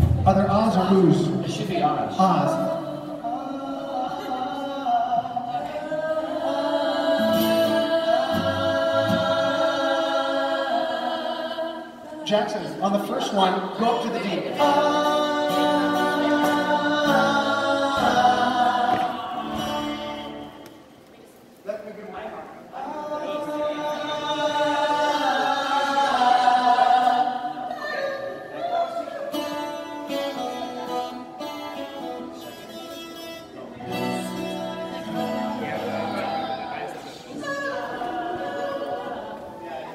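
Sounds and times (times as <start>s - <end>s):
acoustic guitar: 0.0s - 21.7s, 22.9s - 39.9s
choir singing: 1.5s - 20.9s, 22.8s - 31.1s, 33.8s - 39.9s.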